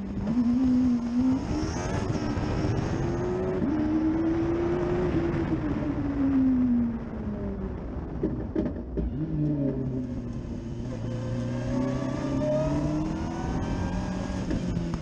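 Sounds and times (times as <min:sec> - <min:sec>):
car engine at low revs: 0:00.0 - 0:15.0
wind: 0:00.0 - 0:15.0.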